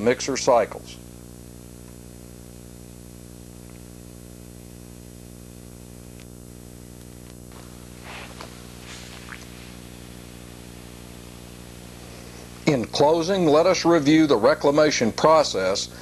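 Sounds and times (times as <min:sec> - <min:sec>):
low electrical hum with buzz: 0:00.0 - 0:16.0.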